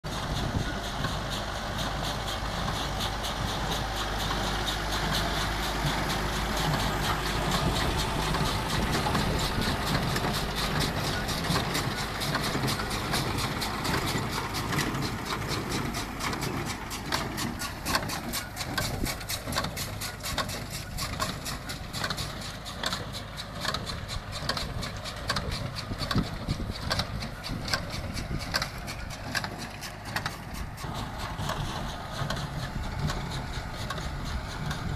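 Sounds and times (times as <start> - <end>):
baler rhythmic knocking: 0.1 - 34.9
tractor engine running: 0.1 - 34.9.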